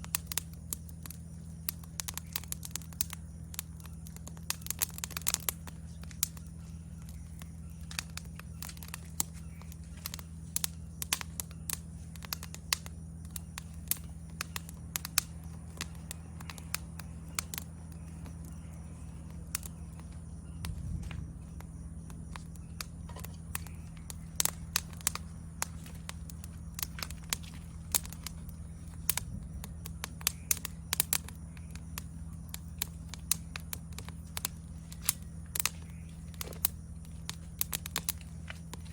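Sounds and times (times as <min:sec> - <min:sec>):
insect trill: 0:00.0 - 0:38.9
low steady hum: 0:00.0 - 0:38.9
wood fire crackling and popping: 0:00.0 - 0:38.9.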